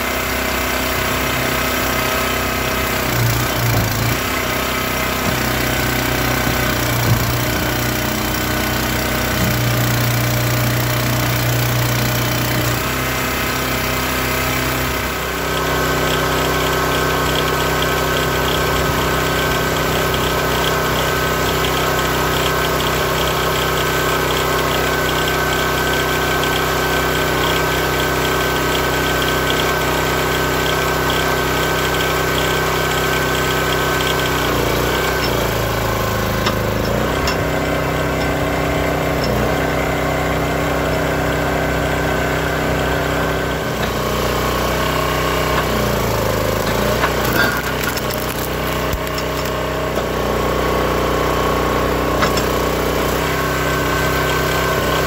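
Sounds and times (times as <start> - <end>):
small gas engine running: 0.0 - 55.0
wood splitter pushing log: 0.0 - 55.0.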